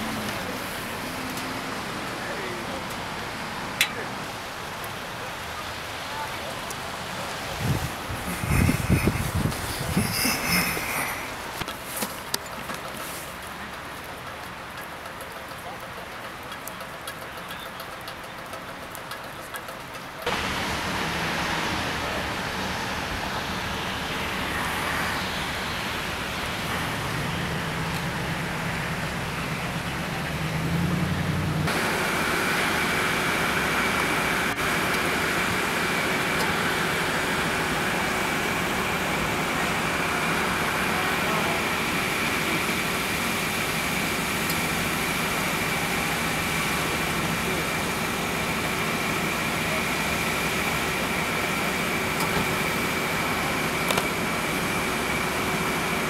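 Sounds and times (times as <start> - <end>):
idling vehicles and traffic: 0.0 - 56.0.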